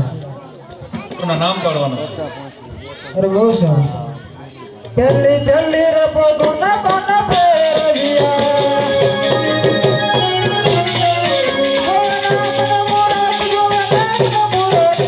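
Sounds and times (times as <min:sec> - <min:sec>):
tabla drumming: 0:00.0 - 0:02.8, 0:04.8 - 0:15.0.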